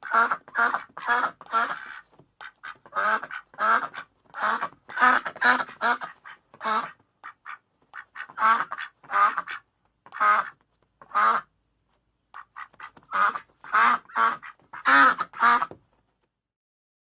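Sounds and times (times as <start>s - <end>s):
duck quacking: 0.0s - 11.5s, 12.3s - 15.8s.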